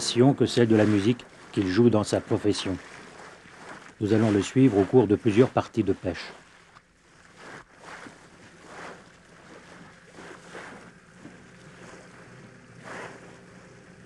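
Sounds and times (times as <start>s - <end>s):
boat motor hum: 0.0s - 14.0s
bow splashing into waves: 0.0s - 14.0s
water slapping against hull: 0.0s - 14.0s.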